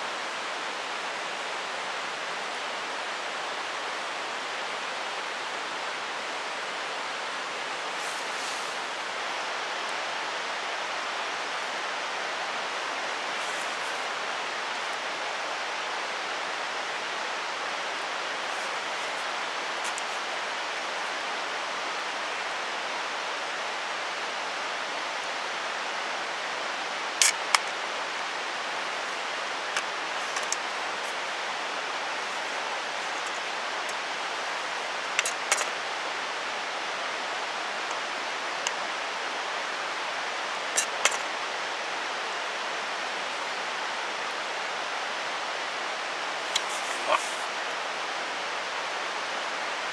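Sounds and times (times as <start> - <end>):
stream rushing: 0.0 - 49.9.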